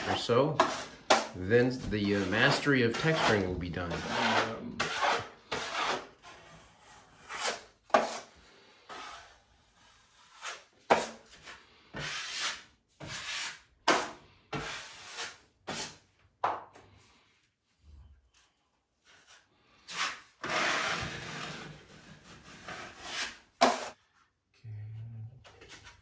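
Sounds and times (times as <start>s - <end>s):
drywall knife scraping compound: 0.0s - 16.2s, 18.0s - 24.2s.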